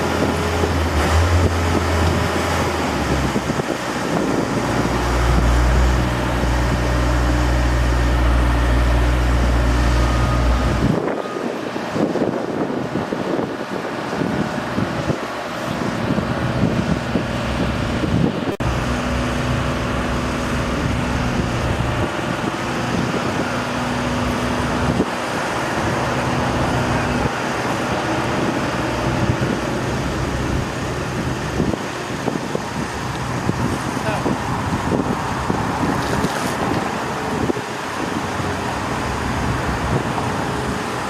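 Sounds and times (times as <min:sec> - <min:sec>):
low engine hum: 0:00.0 - 0:41.0
road traffic: 0:00.0 - 0:41.0.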